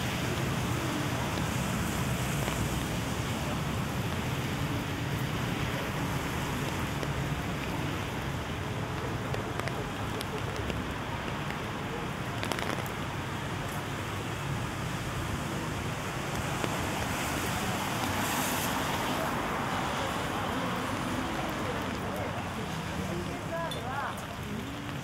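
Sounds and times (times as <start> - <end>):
light ticks of raindrops: 0.0 - 25.0
rain falling on street: 0.0 - 25.0.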